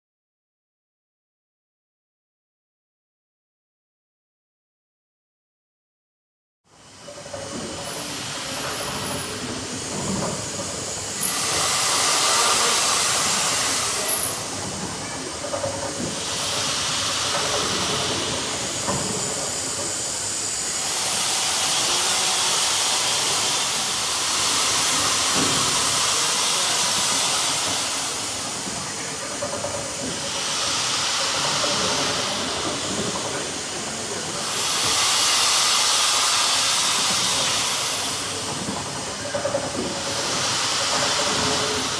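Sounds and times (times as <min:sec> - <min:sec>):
steam hissing: 0:06.7 - 0:41.9
steam engine moving gear: 0:06.8 - 0:41.9.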